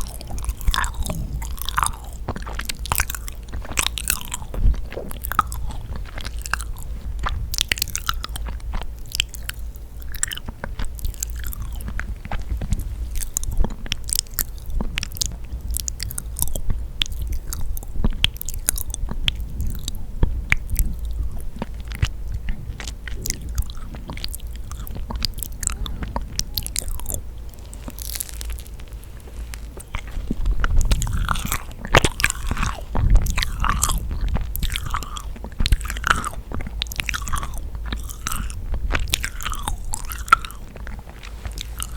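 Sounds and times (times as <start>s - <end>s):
chewing sticky cookie: 0.0s - 41.9s
wet mouth clicks: 0.0s - 41.9s.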